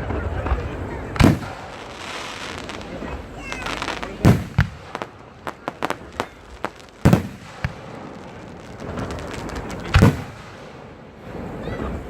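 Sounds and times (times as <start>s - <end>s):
fireworks crackling pops: 0.0s - 12.0s
loud firework boom: 0.0s - 12.0s.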